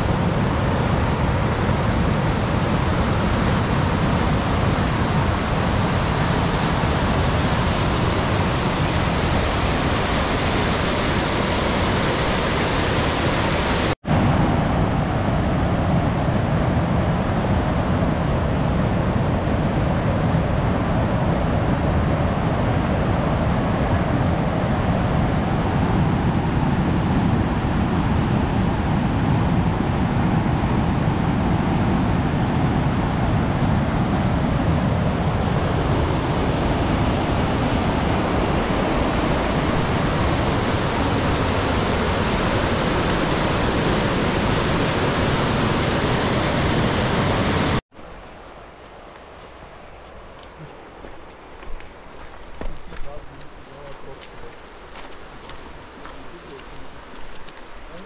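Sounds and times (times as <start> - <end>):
river rushing over rapids: 0.0 - 58.0.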